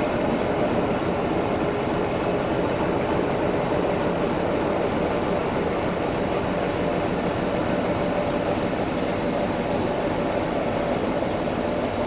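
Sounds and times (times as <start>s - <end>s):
train mechanical rumble: 0.0s - 12.0s.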